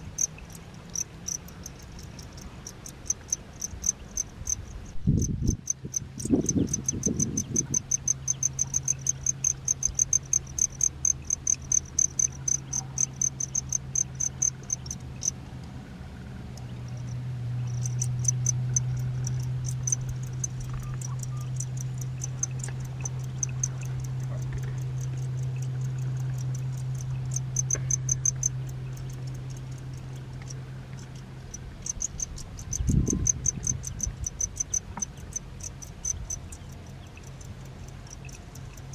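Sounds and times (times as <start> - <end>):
crickets chirping: 0.0 - 38.9
steady low hum: 0.0 - 38.9.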